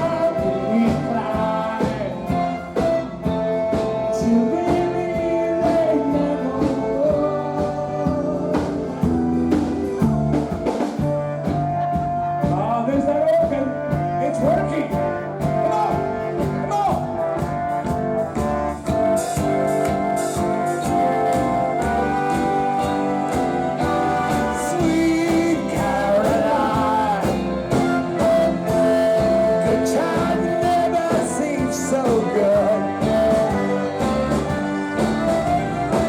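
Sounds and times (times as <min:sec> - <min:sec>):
live rock band playing: 0:00.0 - 0:36.0
steady drum beat: 0:00.0 - 0:36.0.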